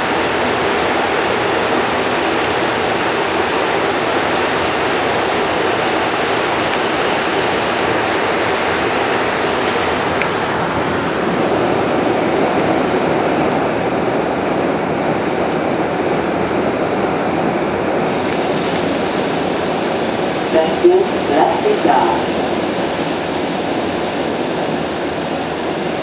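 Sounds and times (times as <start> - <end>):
metro car running noise: 0.0 - 26.0.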